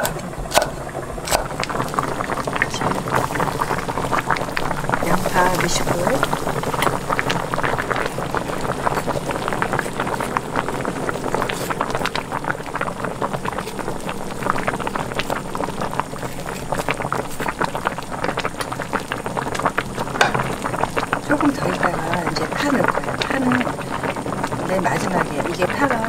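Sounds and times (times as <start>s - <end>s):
sauce bubbling in a pot: 0.0s - 26.0s.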